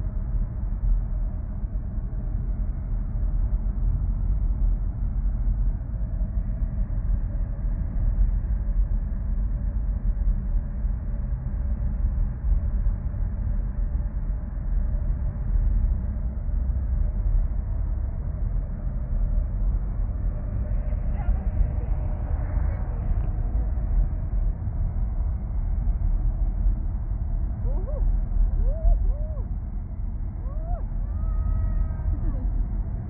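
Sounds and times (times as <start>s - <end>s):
faint steady hum: 0.0s - 33.0s
steady low rumble: 0.0s - 33.0s.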